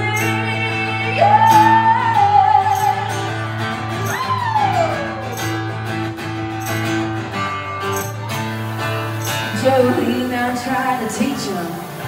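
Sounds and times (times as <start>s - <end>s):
country guitar playing: 0.0s - 12.0s.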